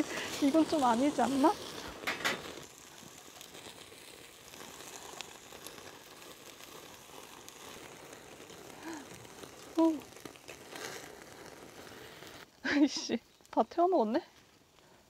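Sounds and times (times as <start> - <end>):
meat sizzling on a grill: 0.0 - 14.1
fat crackling on coals: 0.0 - 15.0.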